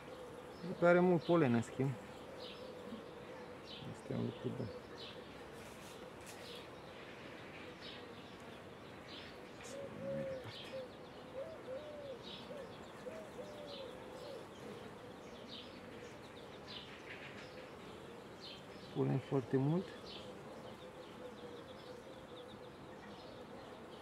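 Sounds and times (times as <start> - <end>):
bird low calls: 0.0 - 24.0
honey bees humming: 0.0 - 24.0.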